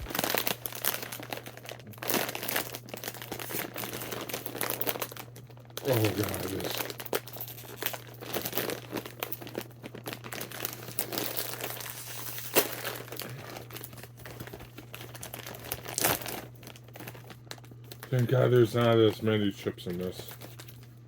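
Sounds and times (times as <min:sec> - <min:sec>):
snack chip bag crinkling: 0:00.0 - 0:21.0.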